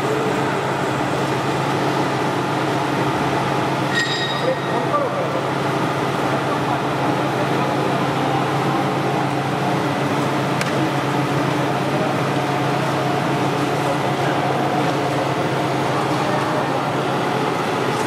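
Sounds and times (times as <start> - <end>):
machine humming with low drone: 0.0 - 18.0.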